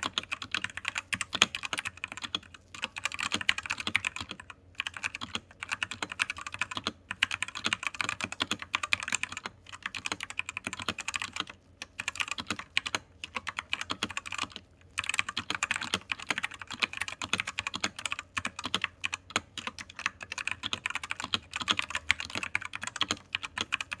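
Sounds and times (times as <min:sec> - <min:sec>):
fast mechanical keyboard typing: 0:00.0 - 0:24.0.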